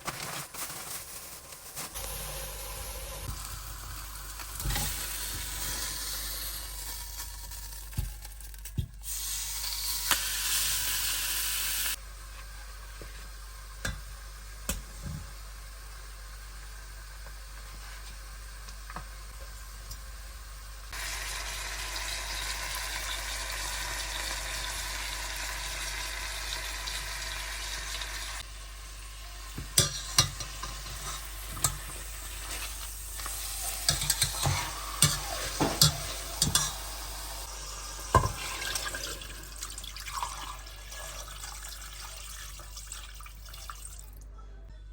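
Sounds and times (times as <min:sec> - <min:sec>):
food sizzling in a pan: 0:00.5 - 0:42.6.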